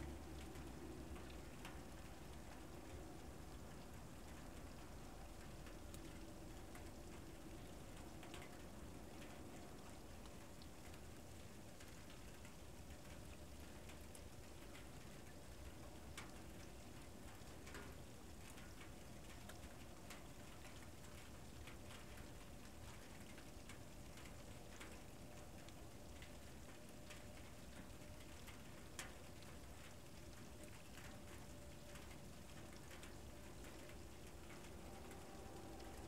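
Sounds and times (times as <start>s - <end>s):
faint microphone hiss and hum: 0.0s - 36.0s
soft ticks: 0.4s - 11.1s, 11.8s - 36.0s.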